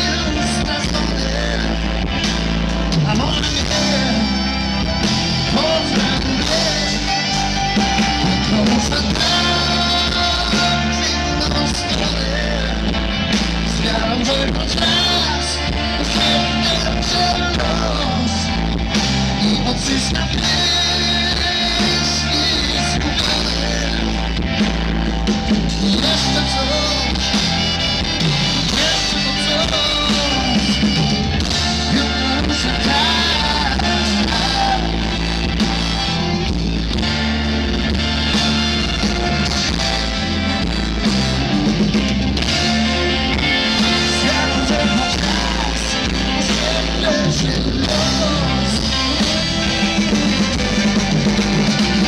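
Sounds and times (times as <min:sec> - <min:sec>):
person singing: 0:00.0 - 0:36.5, 0:38.3 - 0:52.0
live blues-rock band playing: 0:00.0 - 0:52.0.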